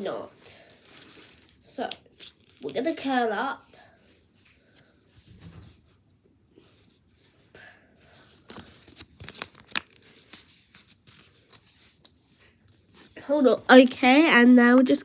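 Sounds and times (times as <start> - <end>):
paper crinkling and rustling: 0.0 - 6.0, 6.6 - 14.1.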